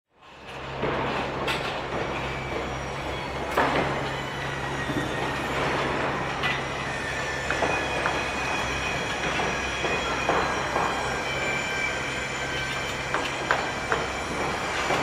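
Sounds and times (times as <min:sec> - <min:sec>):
machinery hum and rumble: 0:00.2 - 0:15.0
faint high squeal: 0:02.3 - 0:15.0.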